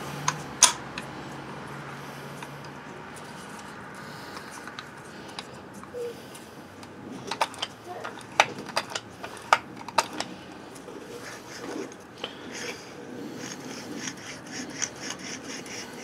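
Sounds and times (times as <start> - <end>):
geared hub ratcheting: 0.2 - 16.0.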